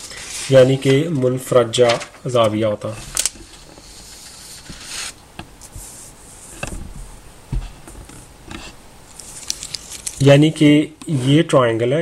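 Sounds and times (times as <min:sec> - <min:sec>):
paper rustling on desk: 0:00.0 - 0:10.3.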